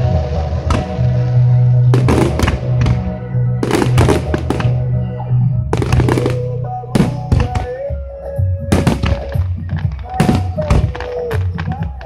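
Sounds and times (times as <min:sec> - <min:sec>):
fireworks bursting with sharp bangs: 0:00.0 - 0:01.3, 0:01.9 - 0:04.9, 0:05.7 - 0:07.9, 0:08.6 - 0:12.0
loud music: 0:00.0 - 0:12.0.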